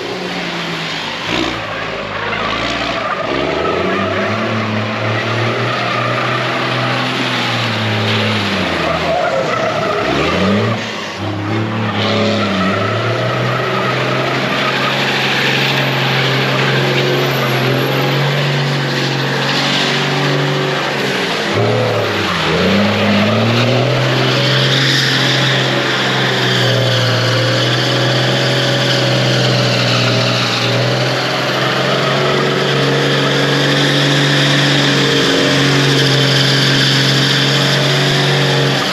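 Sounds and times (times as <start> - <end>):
pickup truck engine revving: 0.0 - 38.9
tires spinning with hiss: 0.0 - 38.9.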